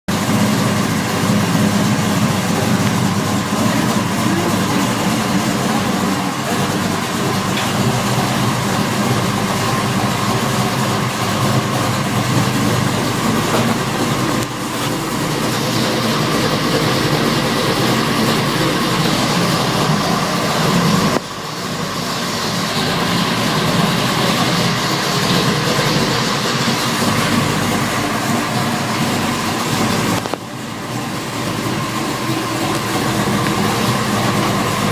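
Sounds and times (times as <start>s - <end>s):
car engine running: 0.1s - 34.9s
odd engine noise: 0.1s - 34.9s.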